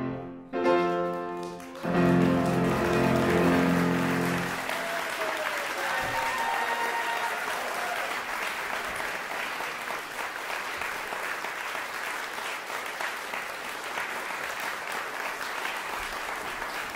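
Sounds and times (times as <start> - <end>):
audience applauding: 0.9 - 16.9.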